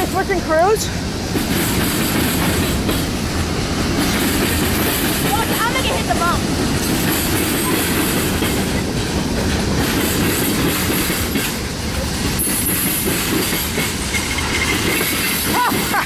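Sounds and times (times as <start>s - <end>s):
freight train rumble: 0.0s - 16.0s
train wheels clattering: 0.0s - 16.0s.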